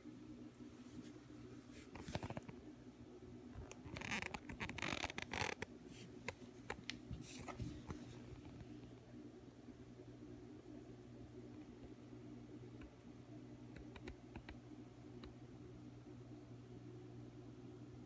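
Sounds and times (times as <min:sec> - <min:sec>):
aquarium air pump humming: 0:00.0 - 0:18.0.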